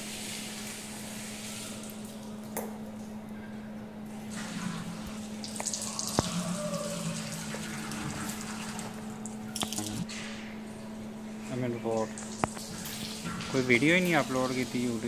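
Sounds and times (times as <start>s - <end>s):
constant low hum: 0.1s - 15.0s.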